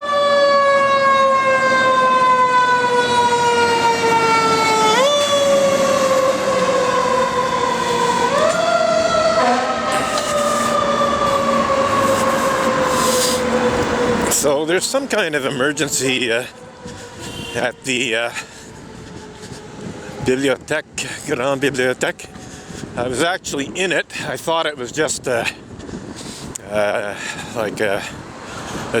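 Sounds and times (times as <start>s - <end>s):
fire truck siren: 0.0s - 23.8s.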